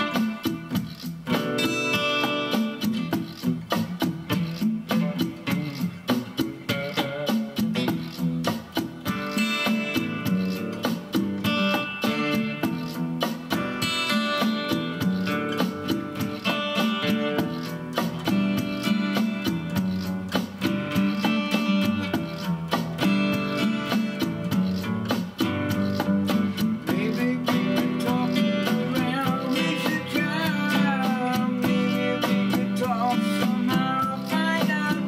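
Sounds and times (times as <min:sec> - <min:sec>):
guitar strumming: 0:00.0 - 0:35.0.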